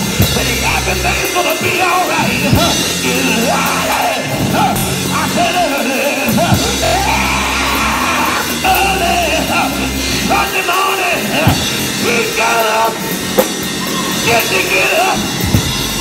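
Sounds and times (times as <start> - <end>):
church band music: 0.0 - 16.0.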